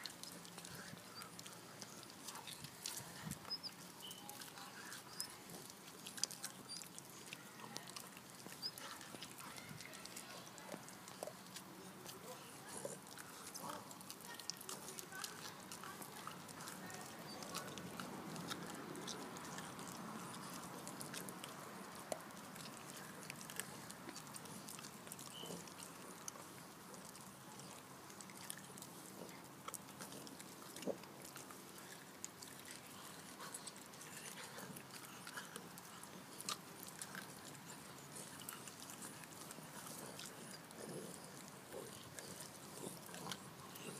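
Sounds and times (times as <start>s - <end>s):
dog chewing mouth clicks: 0.0s - 43.9s.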